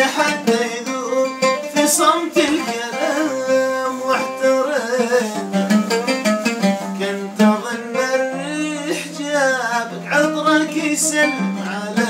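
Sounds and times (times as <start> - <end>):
oud plucked: 0.0 - 12.0.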